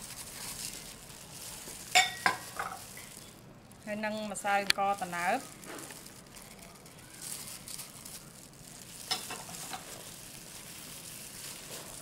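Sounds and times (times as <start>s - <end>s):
gloved hand tossing mixture: 0.0s - 12.0s.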